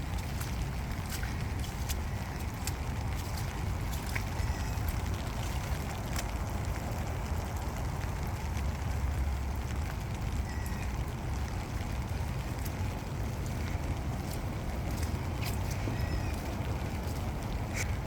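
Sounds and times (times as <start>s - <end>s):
sharp drip-like ticks: 0.0s - 18.0s
steady rain falling: 0.0s - 18.0s.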